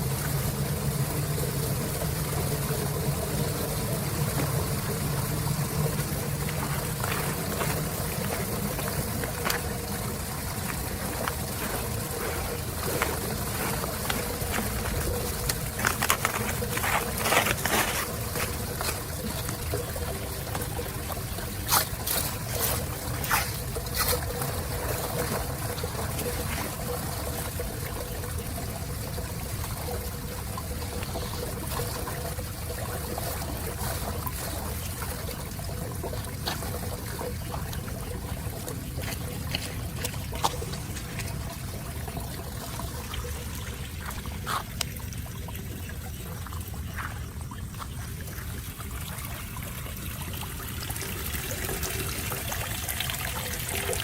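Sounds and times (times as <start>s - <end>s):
water trickling and pouring: 0.0s - 54.0s.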